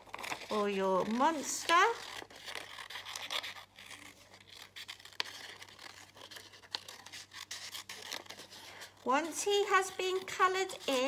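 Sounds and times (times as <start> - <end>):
paper rustling: 0.0 - 11.0
scissors snipping paper: 0.0 - 11.0.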